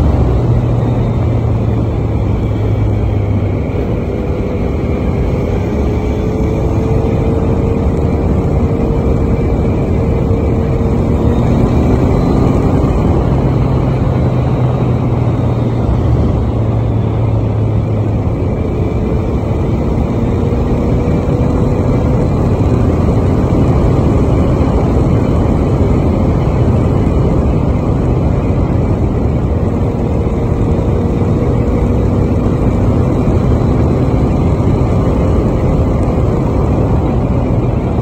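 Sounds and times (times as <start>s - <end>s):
motorcycle engine cruising: 0.0s - 38.0s
wind rush over microphone: 0.0s - 38.0s.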